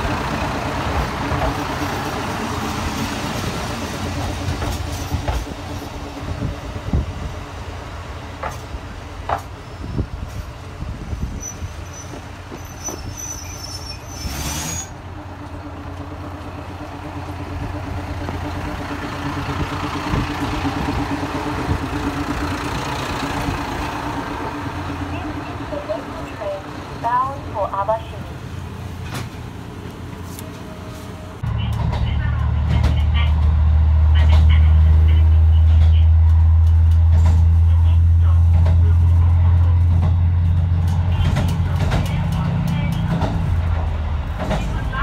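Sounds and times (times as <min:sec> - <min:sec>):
diesel railcar engine droning: 0:00.0 - 0:45.0.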